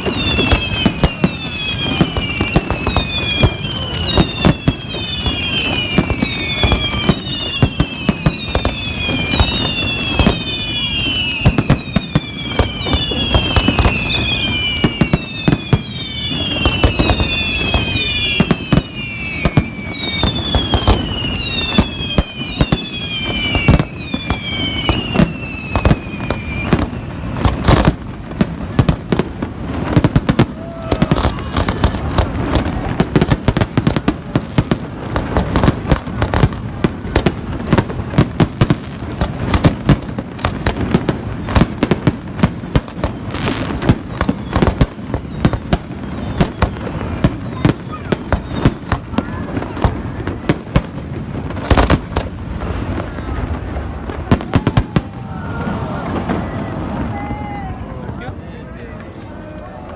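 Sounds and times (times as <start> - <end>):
sharp firework crack: 0.0 - 57.6
falling firework whistles: 0.0 - 57.9
fireworks crackling and banging: 0.0 - 59.9.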